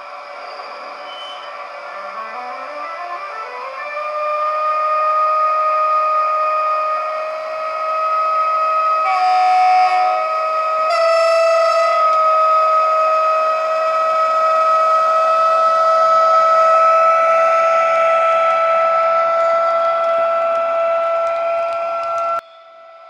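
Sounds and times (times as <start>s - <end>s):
electric locomotive whine: 0.0s - 23.0s
locomotive horn blasts: 1.1s - 23.0s.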